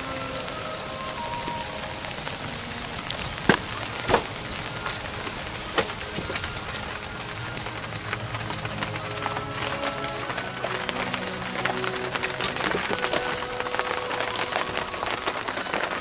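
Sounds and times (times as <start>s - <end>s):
rain on a canvas car top: 0.0s - 16.0s.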